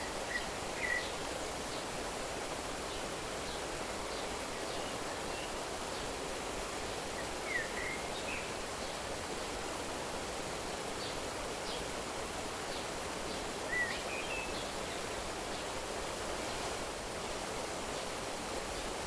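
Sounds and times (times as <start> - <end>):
stream flowing: 0.0 - 19.0.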